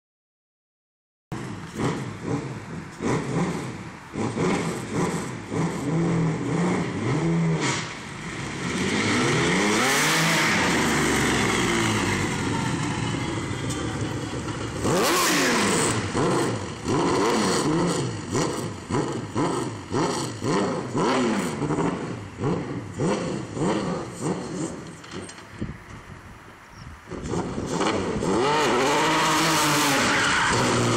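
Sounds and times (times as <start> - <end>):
race car engine revving: 1.4 - 24.9, 27.1 - 30.9.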